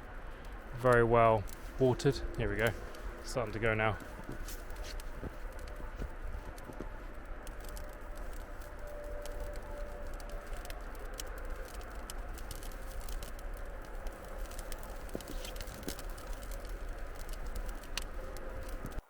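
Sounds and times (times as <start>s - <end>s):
bonfire crackling and popping: 0.0s - 19.0s
low fire rumble: 0.0s - 19.0s.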